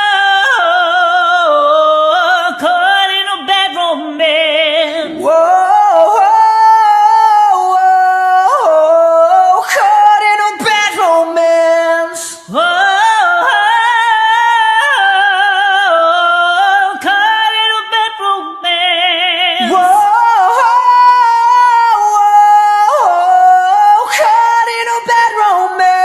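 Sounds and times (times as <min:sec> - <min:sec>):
person singing without words: 0:00.0 - 0:26.0.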